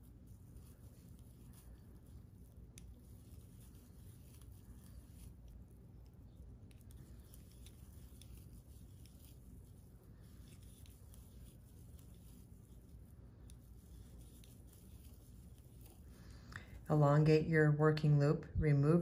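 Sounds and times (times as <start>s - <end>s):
crochet hook ticks and rustles: 0.0s - 16.2s
low room hum: 0.0s - 19.0s.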